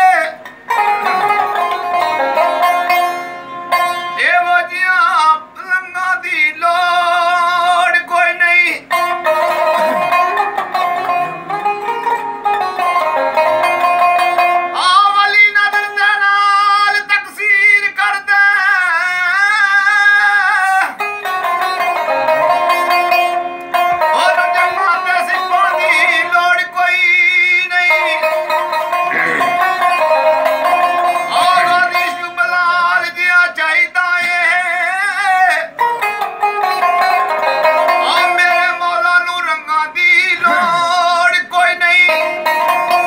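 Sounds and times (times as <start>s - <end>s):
plucked string instrument melody: 0.0s - 5.4s, 7.0s - 17.6s, 20.6s - 43.0s.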